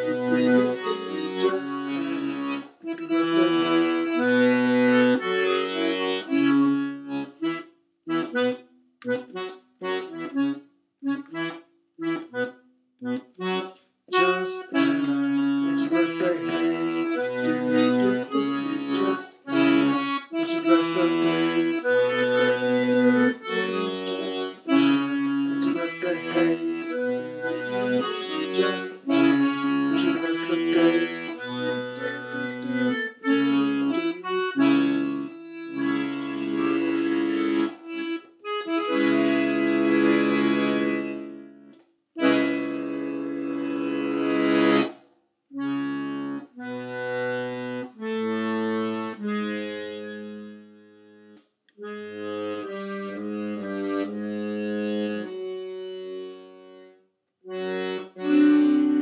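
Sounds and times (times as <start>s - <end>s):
accordion melody: 0.0s - 59.0s.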